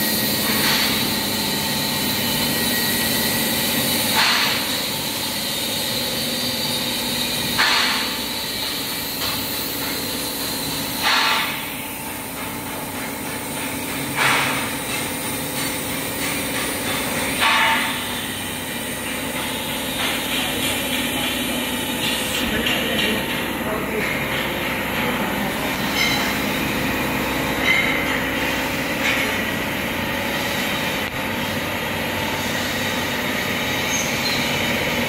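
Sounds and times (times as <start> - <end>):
production line motors humming: 0.0 - 35.0.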